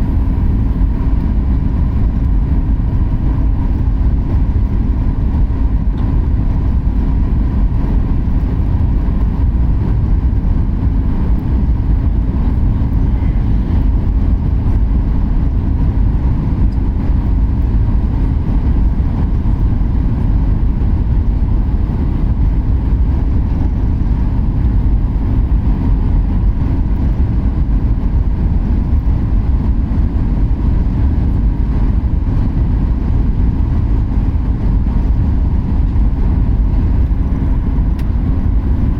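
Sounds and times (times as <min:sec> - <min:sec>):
faint steady hum: 0:00.0 - 0:38.9
jet engine cabin rumble: 0:00.0 - 0:38.9.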